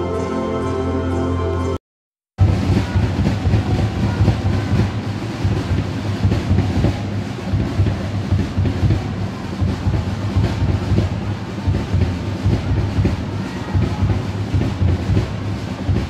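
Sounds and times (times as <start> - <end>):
crowd chanting: 2.4 - 16.0
drum beats: 2.4 - 16.0.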